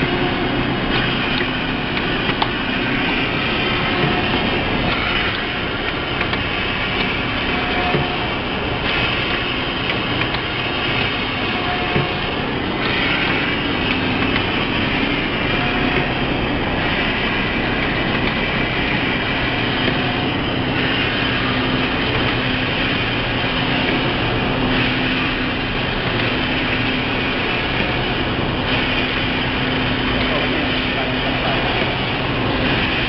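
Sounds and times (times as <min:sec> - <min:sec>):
machine humming and hissing: 0:00.0 - 0:33.0.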